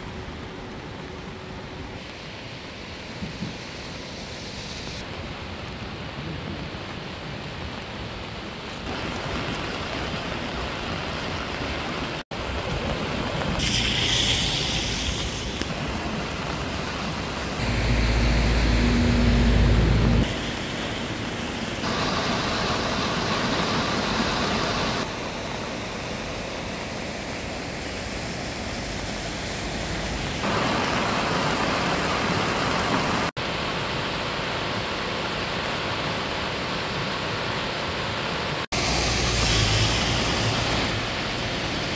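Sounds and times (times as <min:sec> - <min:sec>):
stream rushing over a weir: 0:00.0 - 0:41.9.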